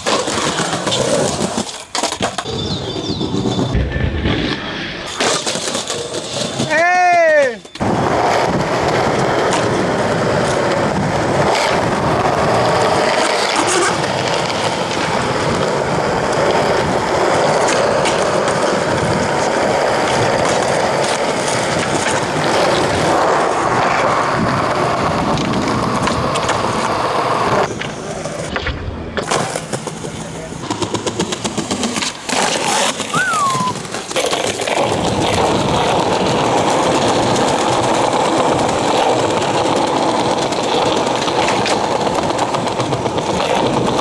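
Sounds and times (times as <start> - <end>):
skateboard wheels rolling: 0.0 - 44.0.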